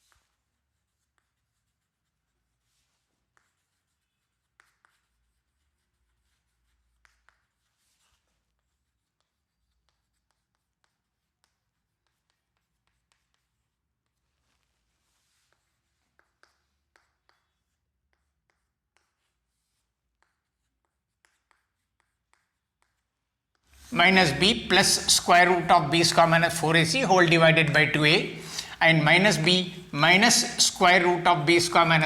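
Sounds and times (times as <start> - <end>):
taps and scratches of writing: 0.0 - 32.0.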